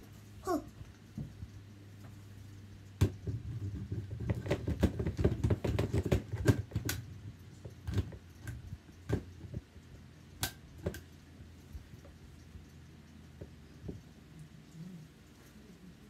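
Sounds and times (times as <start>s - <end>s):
faint low hum: 0.0s - 16.0s
small clicks and knocks: 0.7s - 15.5s.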